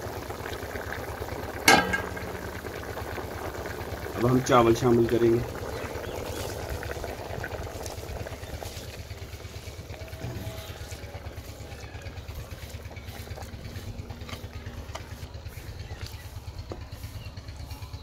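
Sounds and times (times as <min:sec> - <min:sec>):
pot of broth boiling: 0:00.0 - 0:18.0.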